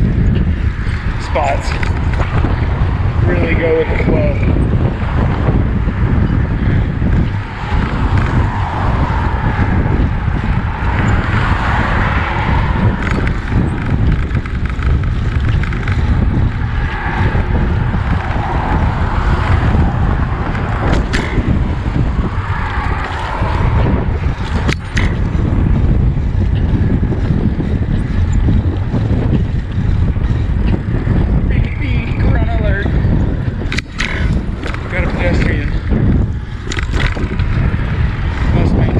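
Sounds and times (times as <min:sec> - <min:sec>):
road and traffic noise: 0:00.0 - 0:38.9
wind buffeting microphone: 0:00.0 - 0:38.9.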